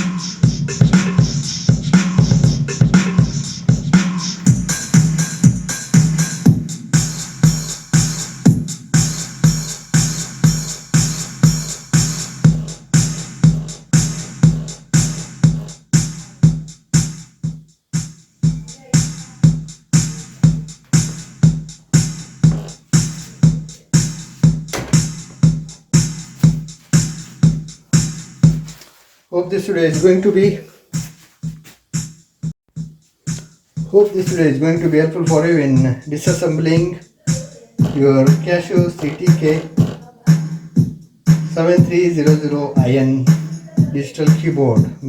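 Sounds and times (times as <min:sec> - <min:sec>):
music with drum-machine beat: 0:00.0 - 0:28.8, 0:30.0 - 0:45.0.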